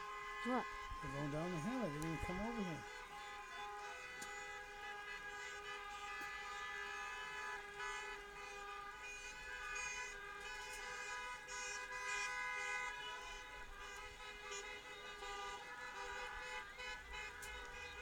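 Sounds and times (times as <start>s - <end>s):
flock of geese honking: 0.0s - 18.0s.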